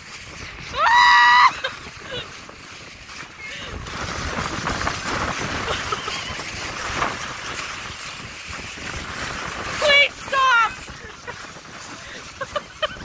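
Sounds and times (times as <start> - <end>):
strong wind gusting on microphone: 0.0 - 13.0.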